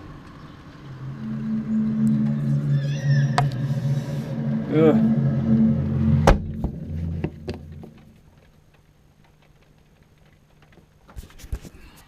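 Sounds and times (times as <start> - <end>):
low droning hum: 0.0 - 9.7.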